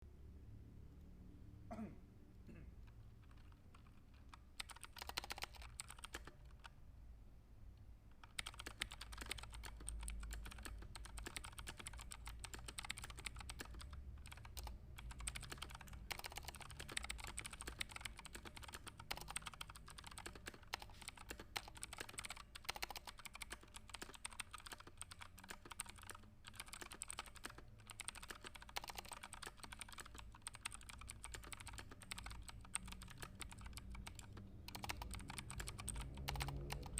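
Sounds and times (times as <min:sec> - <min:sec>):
fast keyboard typing: 0:02.9 - 0:06.8, 0:08.1 - 0:36.9.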